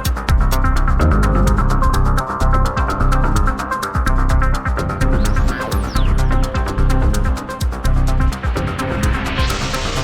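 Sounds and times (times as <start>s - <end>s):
minimal techno music: 0.0s - 10.0s.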